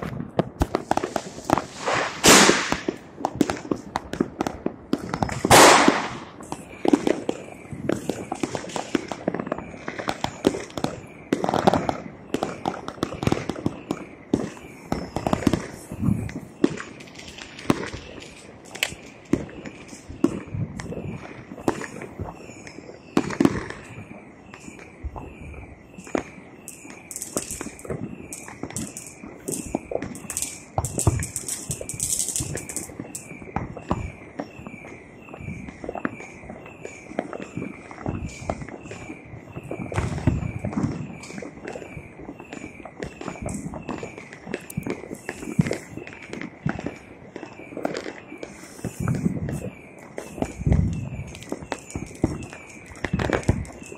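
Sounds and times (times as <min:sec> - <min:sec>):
fireworks and firecrackers banging: 0:00.0 - 0:53.9.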